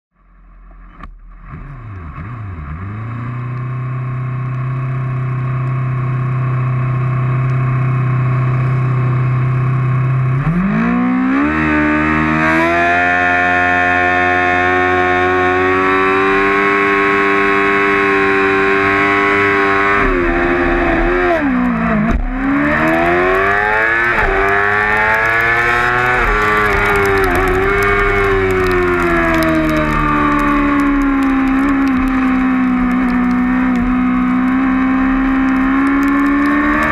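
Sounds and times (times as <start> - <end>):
motorcycle engine revving: 0.8 - 36.9.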